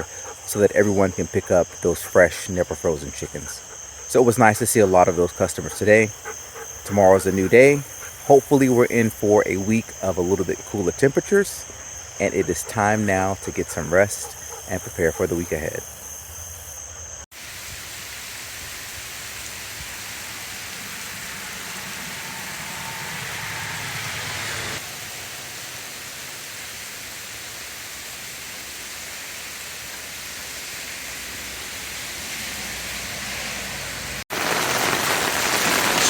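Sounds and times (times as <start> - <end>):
steady rain falling: 0.0 - 15.8, 17.4 - 23.5, 24.8 - 36.0.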